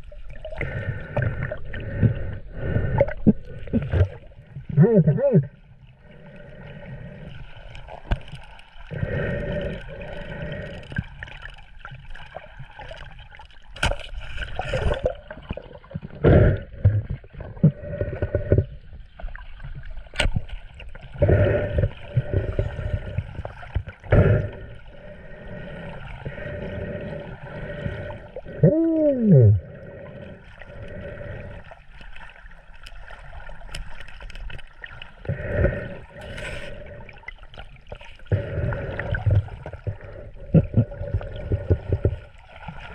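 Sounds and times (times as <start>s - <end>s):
sea water sloshing and gurgling: 0.0s - 42.9s.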